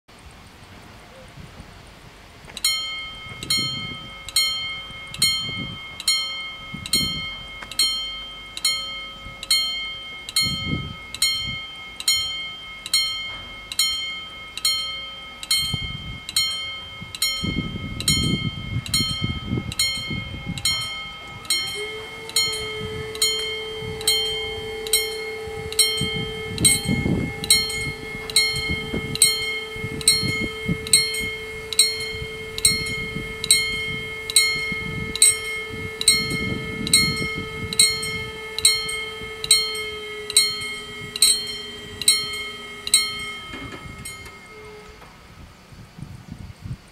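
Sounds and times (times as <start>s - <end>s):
steady low tone: 2.2s - 46.5s
level crossing bells ringing: 2.6s - 45.1s.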